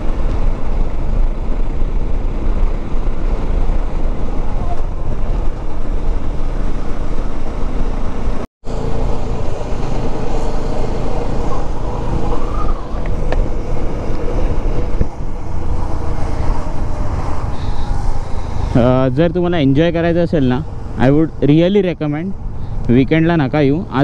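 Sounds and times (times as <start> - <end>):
wind rushing: 0.0 - 23.5
motorcycle engine cruising: 0.0 - 24.0.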